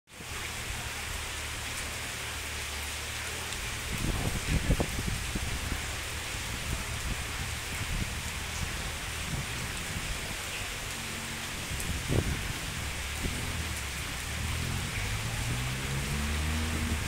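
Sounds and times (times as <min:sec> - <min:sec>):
rain falling on concrete: 0:00.1 - 0:17.0.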